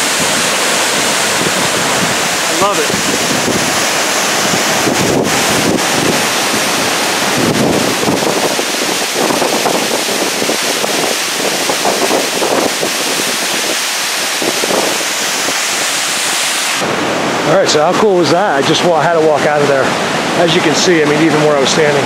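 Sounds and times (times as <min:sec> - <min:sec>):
waterfall rushing: 0:00.0 - 0:22.0
wind buffeting the microphone: 0:00.0 - 0:22.0.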